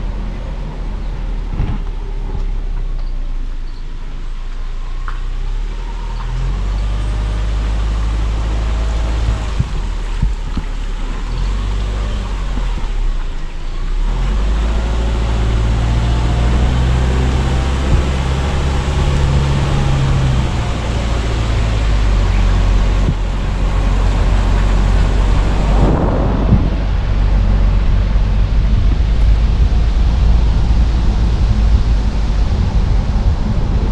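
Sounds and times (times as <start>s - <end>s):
car engine hum: 0.0s - 33.9s
tyre road noise: 0.0s - 33.9s
rough rush of noise: 6.4s - 33.9s.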